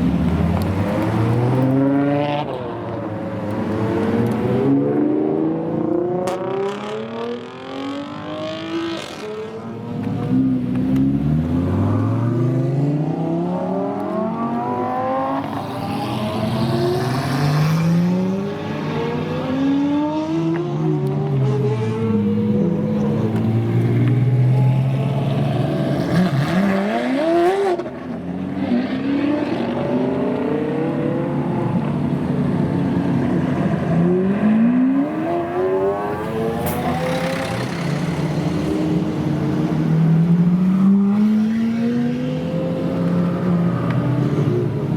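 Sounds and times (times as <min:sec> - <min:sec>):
engines revving high: 0:00.0 - 0:31.8, 0:33.8 - 0:44.9
sports cars accelerating: 0:00.0 - 0:44.9.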